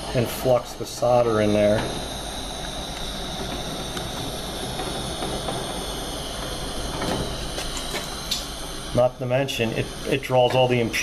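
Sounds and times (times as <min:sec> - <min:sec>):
solder sizzling under iron: 0:00.0 - 0:11.0.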